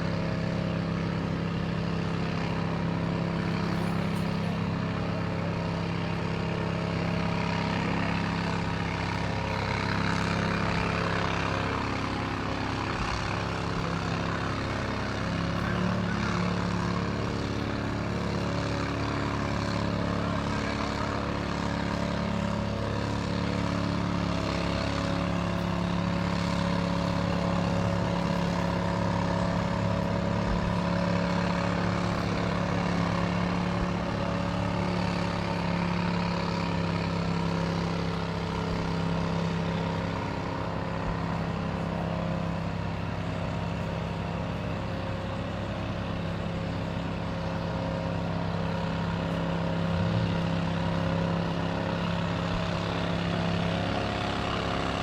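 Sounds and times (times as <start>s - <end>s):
fire engines droning: 0.0s - 55.0s.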